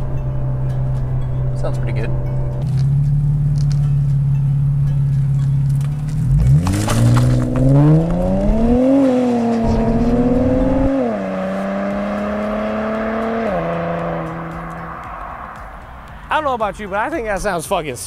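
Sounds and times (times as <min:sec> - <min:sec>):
car exhaust accelerating hard: 0:00.0 - 0:16.1.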